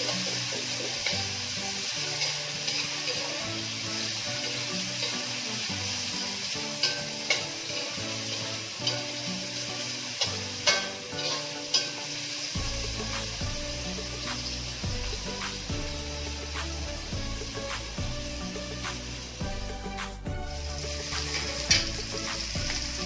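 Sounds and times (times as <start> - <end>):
spatula scraping metal wok: 0.0 - 19.1, 20.8 - 23.0
food sizzling in hot oil: 0.0 - 23.0.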